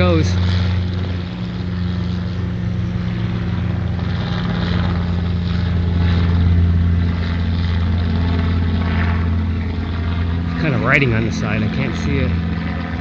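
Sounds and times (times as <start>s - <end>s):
helicopter flying past: 0.0s - 13.0s.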